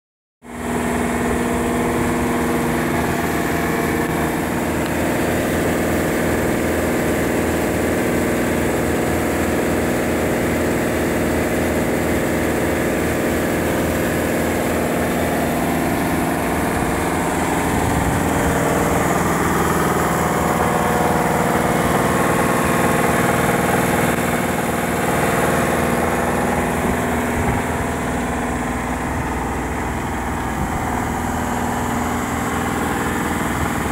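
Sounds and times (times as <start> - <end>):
car engine idling: 0.5 - 33.9.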